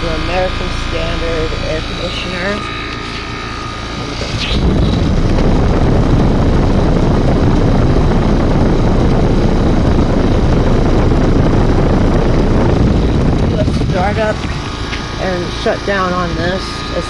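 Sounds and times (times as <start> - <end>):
air conditioner fan whooshing: 0.0 - 17.0.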